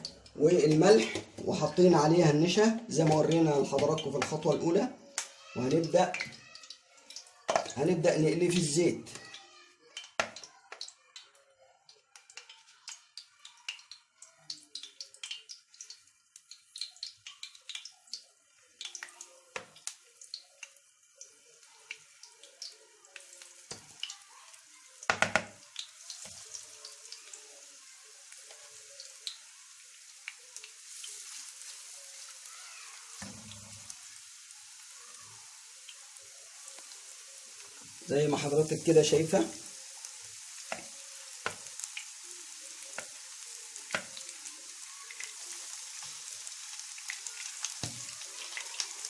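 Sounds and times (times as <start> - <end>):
chicken deep-frying in oil: 0.0 - 49.0.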